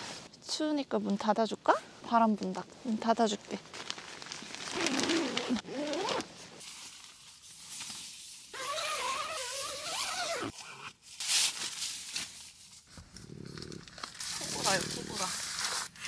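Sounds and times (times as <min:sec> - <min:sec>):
rustling: 0:02.1 - 0:16.0.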